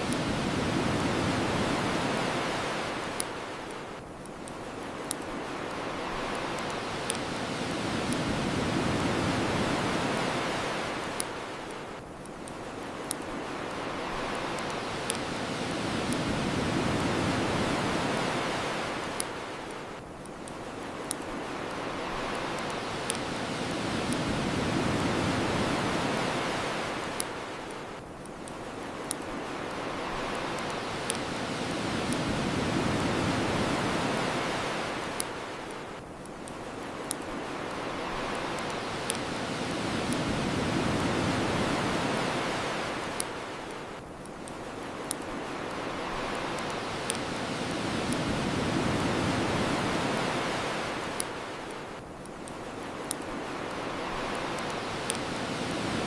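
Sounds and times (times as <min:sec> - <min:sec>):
bonfire crackling and popping: 0:00.0 - 0:56.0
ocean waves washing ashore: 0:00.0 - 0:56.0.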